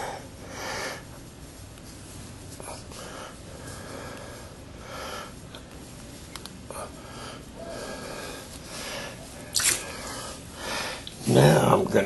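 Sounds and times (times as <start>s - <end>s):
person breathing in soft puffs: 0.0s - 11.1s.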